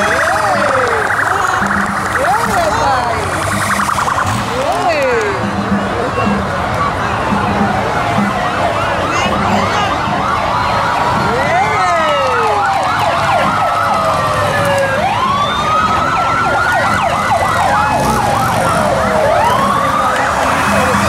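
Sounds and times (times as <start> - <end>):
police motorcycle sirens: 0.0 - 21.0.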